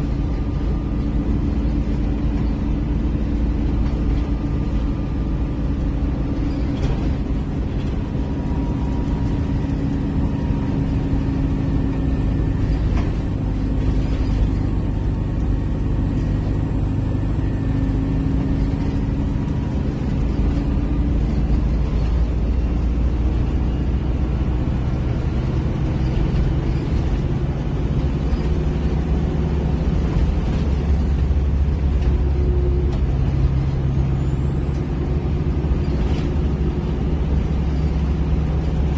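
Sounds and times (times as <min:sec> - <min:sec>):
bus engine rumbling: 0:00.0 - 0:38.9.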